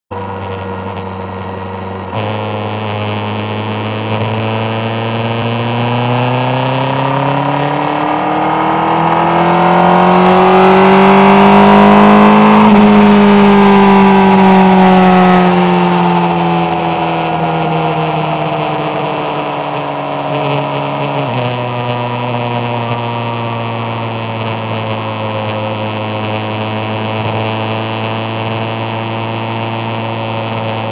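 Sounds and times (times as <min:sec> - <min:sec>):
motorcycle engine revving: 0:00.1 - 0:30.9.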